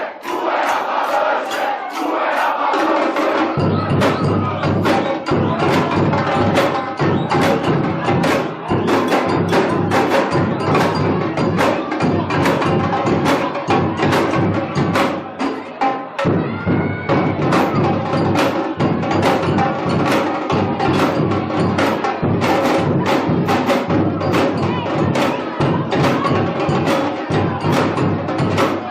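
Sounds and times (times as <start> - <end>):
drum ensemble playing samba: 0.0 - 28.9.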